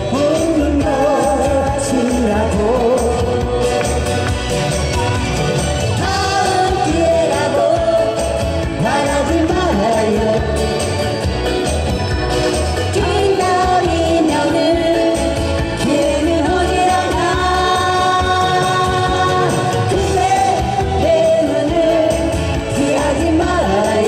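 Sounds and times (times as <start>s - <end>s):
person singing pop song: 0.0s - 24.0s.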